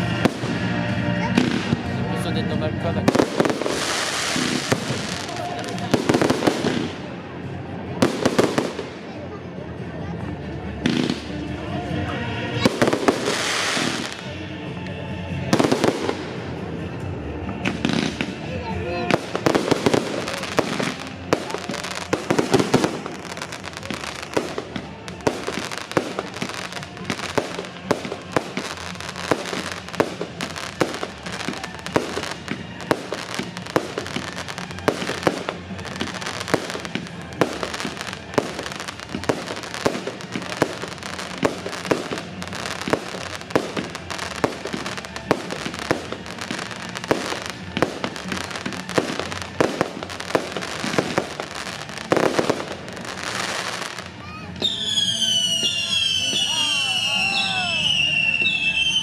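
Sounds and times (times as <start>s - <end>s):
fireworks bursting and crackling: 0.0s - 10.0s, 10.8s - 59.0s.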